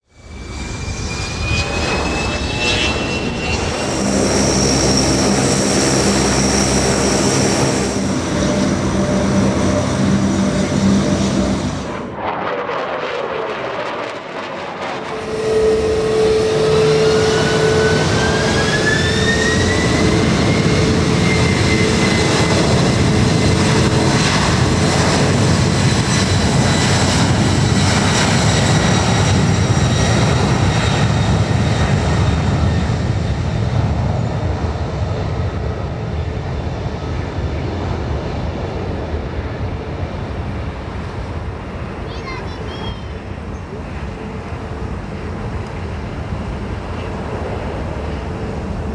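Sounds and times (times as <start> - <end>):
aircraft engines whining: 0.2 - 48.9.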